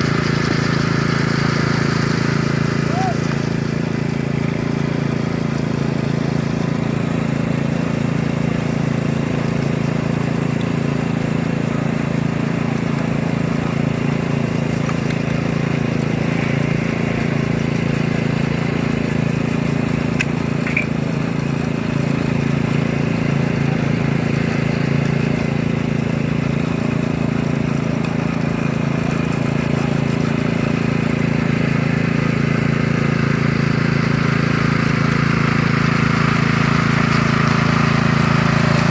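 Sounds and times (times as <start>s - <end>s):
power trowel engine humming: 0.0s - 38.9s.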